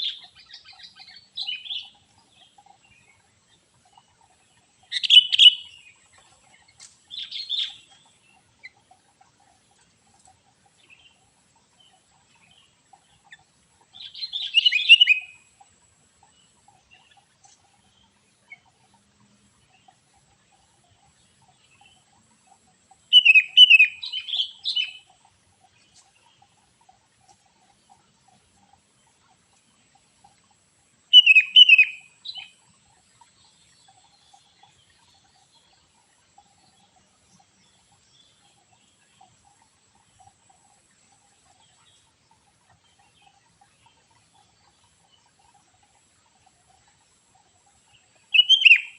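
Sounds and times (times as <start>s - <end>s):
songbird chirping and twittering: 0.0s - 48.9s.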